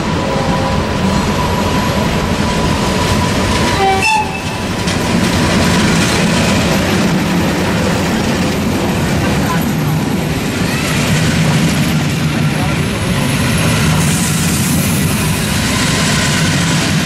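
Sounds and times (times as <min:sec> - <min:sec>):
diesel locomotive engine under load: 0:00.0 - 0:17.0
train wheels clattering over rail joints: 0:00.3 - 0:17.0.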